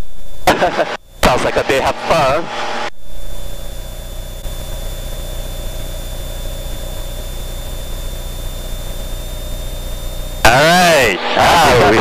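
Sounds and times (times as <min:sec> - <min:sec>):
airplane engine and propeller drone: 0:00.0 - 0:12.0
faint high whine: 0:00.0 - 0:12.0.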